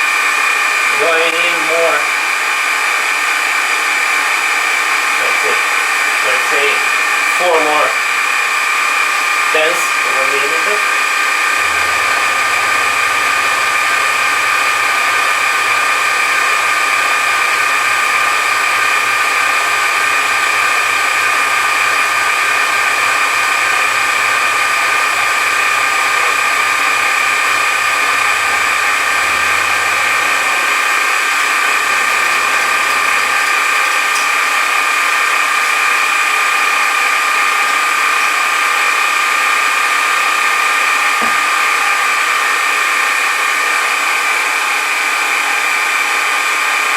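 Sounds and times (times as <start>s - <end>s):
metal shaper whining: 0.0s - 46.9s.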